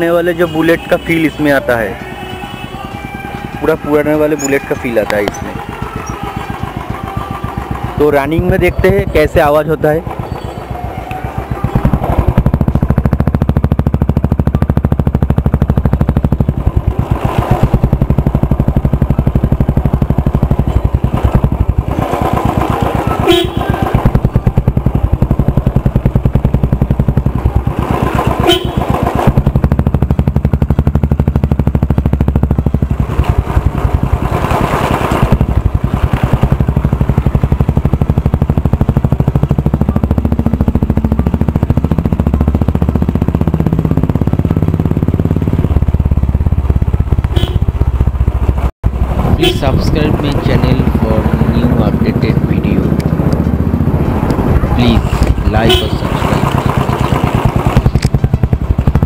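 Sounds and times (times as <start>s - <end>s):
motorcycle exhaust beating: 0.0s - 59.0s.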